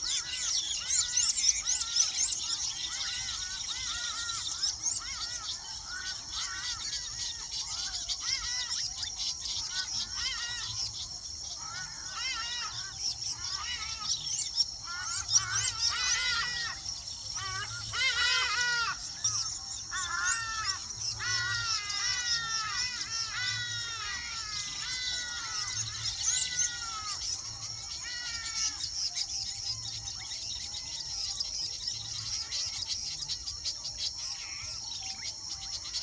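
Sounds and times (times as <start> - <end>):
birds calling: 0.0 - 36.0
high-pitched insect drone: 0.0 - 36.0.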